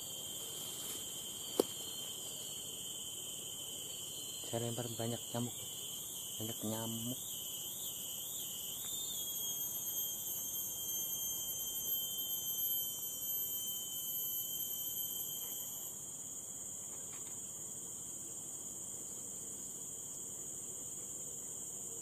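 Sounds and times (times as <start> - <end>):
insects singing: 0.0 - 22.0.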